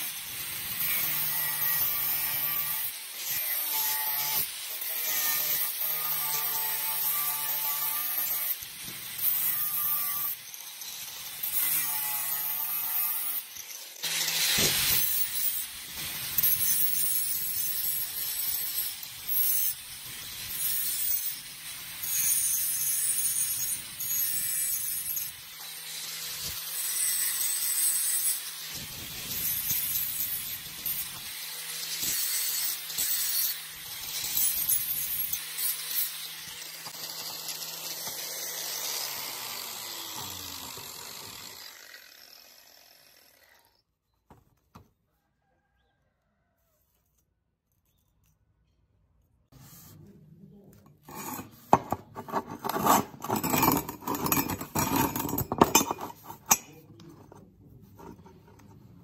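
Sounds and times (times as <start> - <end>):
angle grinder cutting steel: 0.0 - 43.8, 51.0 - 57.5.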